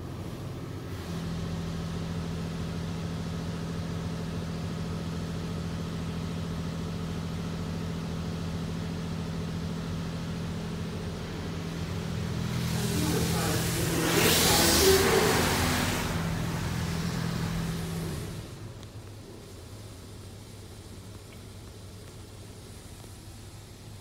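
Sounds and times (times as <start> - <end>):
car wash machine hum: 0.0 - 24.0.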